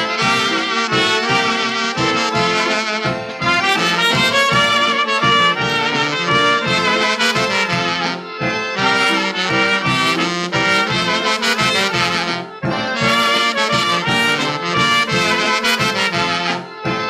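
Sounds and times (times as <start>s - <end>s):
polka band waltz from old record: 0.0s - 17.0s.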